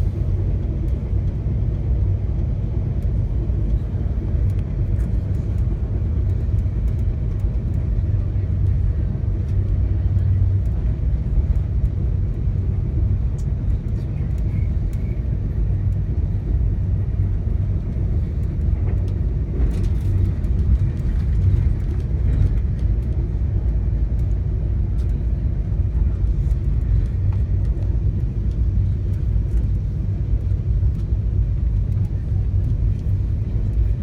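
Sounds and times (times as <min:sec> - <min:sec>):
passenger train rumbling: 0:00.0 - 0:34.0.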